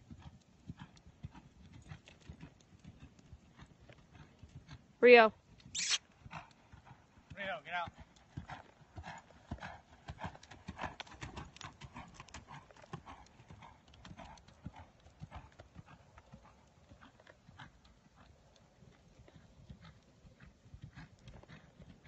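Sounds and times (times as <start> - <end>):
horse hoofbeats on dirt: 0.0 - 22.0.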